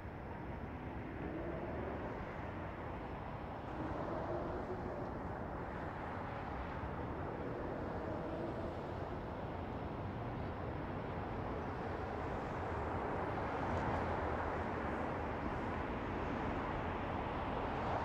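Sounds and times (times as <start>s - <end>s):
distant traffic hum: 0.0s - 18.0s.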